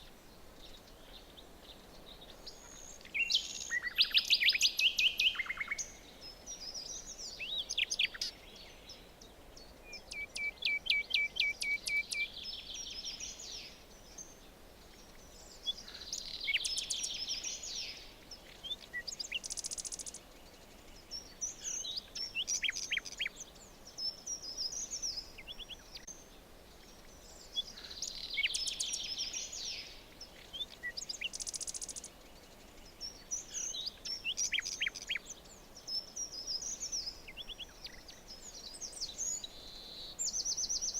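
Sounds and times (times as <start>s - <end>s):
birds singing: 0.0s - 40.9s
faint background hiss: 0.0s - 40.9s.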